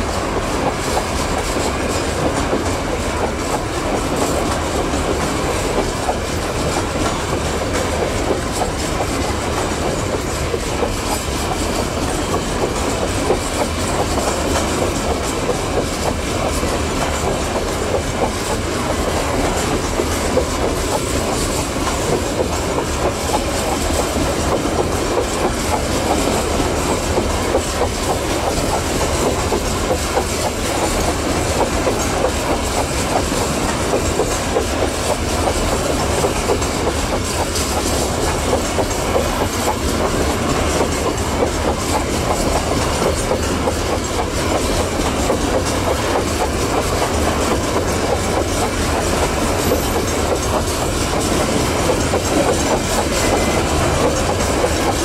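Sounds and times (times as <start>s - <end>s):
low rumble of train: 0.0s - 55.0s
train wheels clacking over rail joints: 0.0s - 55.0s.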